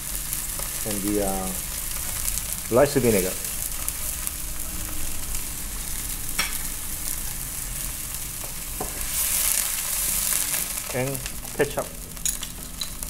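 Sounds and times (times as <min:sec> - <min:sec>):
sauce sizzling and bubbling: 0:00.0 - 0:13.0.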